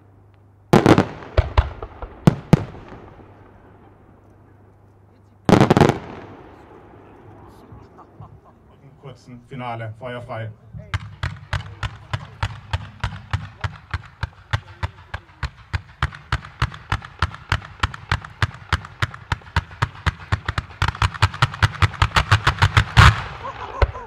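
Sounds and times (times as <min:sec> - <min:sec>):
fireworks bangs: 0:00.7 - 0:04.7, 0:05.4 - 0:24.0.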